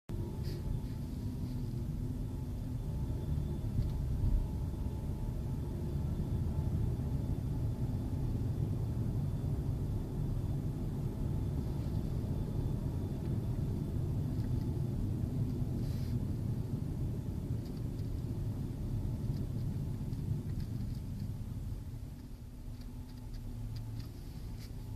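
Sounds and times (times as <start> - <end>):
road and engine rumble: 0.1 - 24.9.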